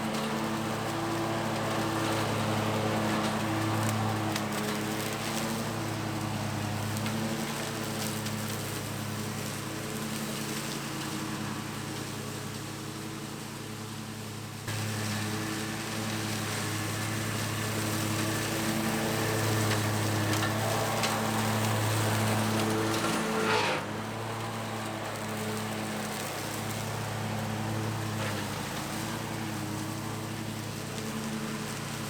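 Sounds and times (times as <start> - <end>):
lawn mower engine hum: 0.0 - 32.0.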